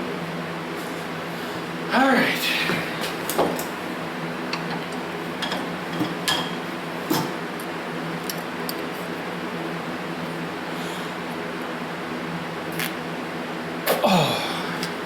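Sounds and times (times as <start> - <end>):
shop fan humming: 0.0 - 15.0.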